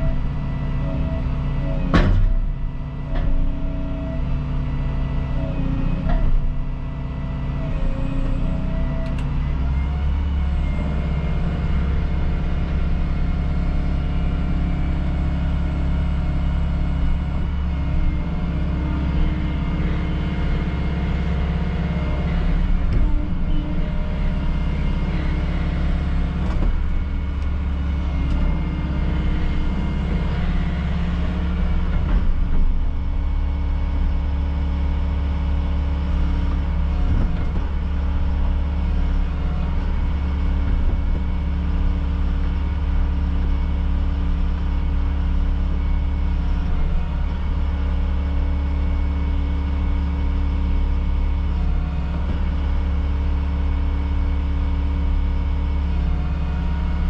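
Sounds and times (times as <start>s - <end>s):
excavator diesel engine and hydraulics: 0.0s - 57.0s.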